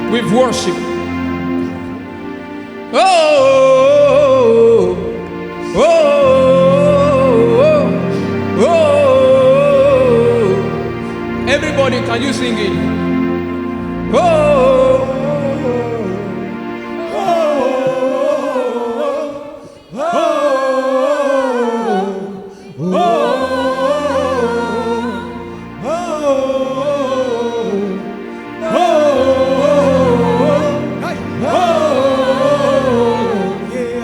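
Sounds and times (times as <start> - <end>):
person singing wordless phrases: 0.0 - 1.8, 2.9 - 34.0
sustained backing chords: 0.0 - 22.1, 22.8 - 34.0.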